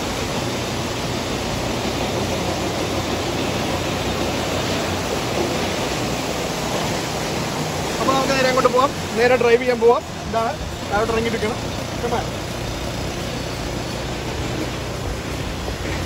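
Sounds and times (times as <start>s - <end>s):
river rapids rushing over stones: 0.0s - 16.0s.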